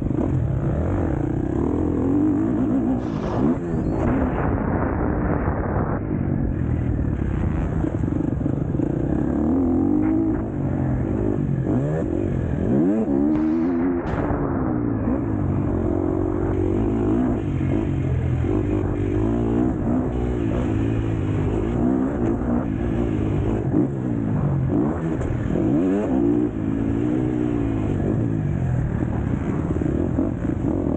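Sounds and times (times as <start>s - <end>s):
motocross bike engine revving: 0.0s - 4.2s, 6.5s - 30.9s.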